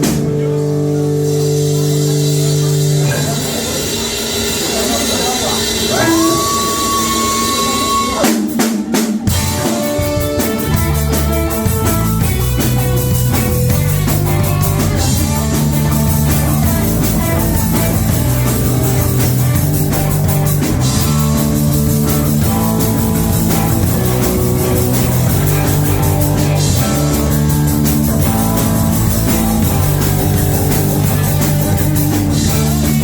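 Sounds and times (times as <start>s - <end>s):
rock band playing live: 0.0s - 33.0s
drum hits: 3.0s - 33.0s.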